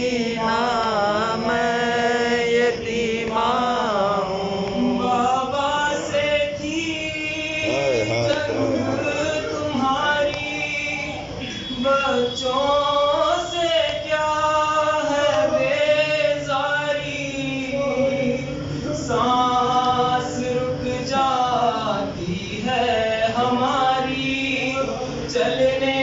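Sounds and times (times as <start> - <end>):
man chanting unaccompanied: 0.0 - 26.0.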